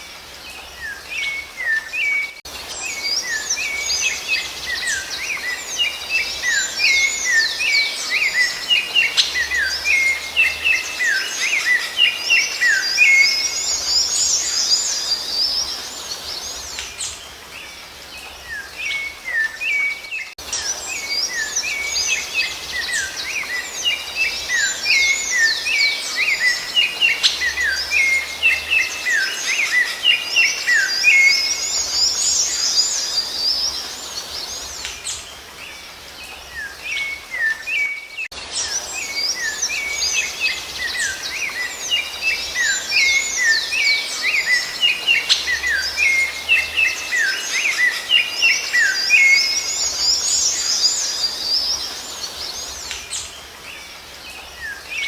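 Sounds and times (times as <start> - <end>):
thrush song of chirped and whistled notes: 0.0 - 55.0.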